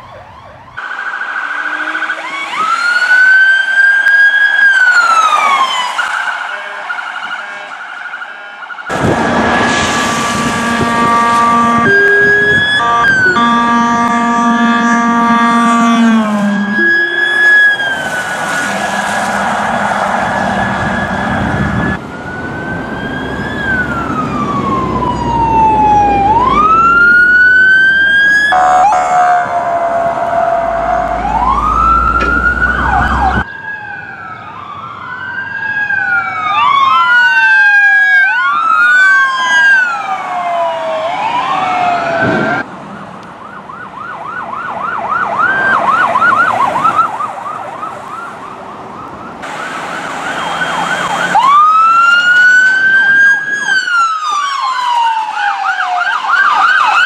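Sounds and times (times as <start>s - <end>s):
siren fast yelp: 0.0s - 42.6s, 44.0s - 57.0s
police sirens wailing: 0.0s - 57.0s.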